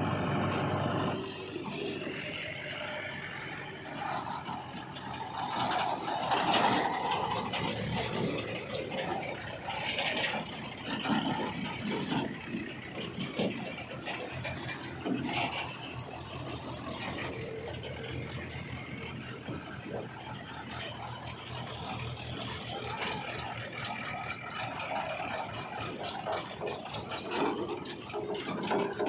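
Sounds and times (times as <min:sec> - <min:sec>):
diesel machinery engine running: 0:00.0 - 0:29.0
metallic rattling and clanking: 0:01.1 - 0:29.0.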